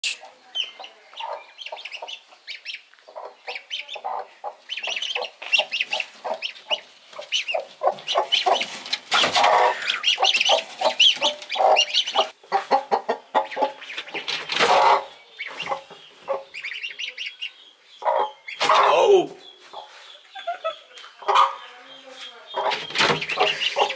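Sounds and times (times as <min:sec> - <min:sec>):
hen clucking: 0:00.0 - 0:23.9.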